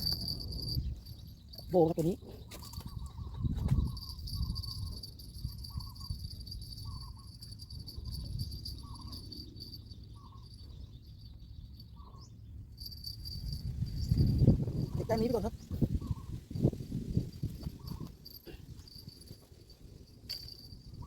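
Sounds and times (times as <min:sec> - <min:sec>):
short chirping calls: 0:00.0 - 0:19.1
crickets trilling: 0:00.0 - 0:21.0.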